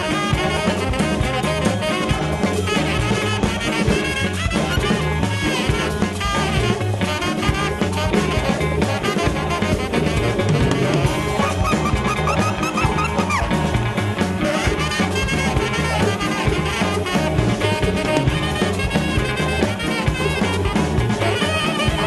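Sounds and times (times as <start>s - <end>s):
drum and bass groove: 0.0s - 22.0s
horn section playing riffs: 0.0s - 22.0s.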